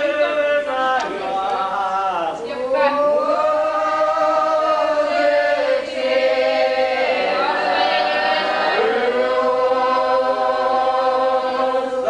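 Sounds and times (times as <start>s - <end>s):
voices chanting: 0.0s - 12.0s.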